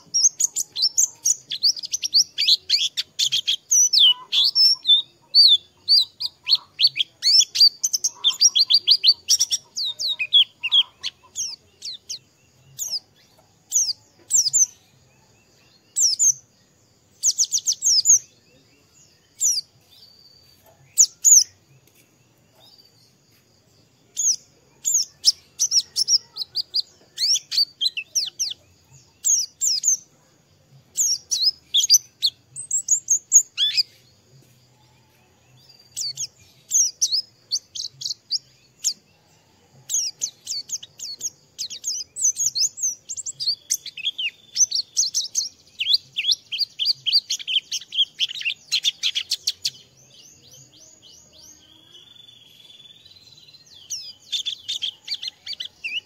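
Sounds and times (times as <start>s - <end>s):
bird twittering and trilling: 0.0s - 56.0s.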